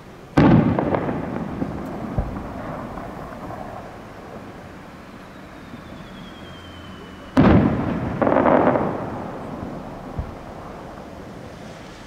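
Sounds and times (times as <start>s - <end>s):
firework bursts: 0.0s - 12.0s
firework shell whistling: 0.0s - 12.0s.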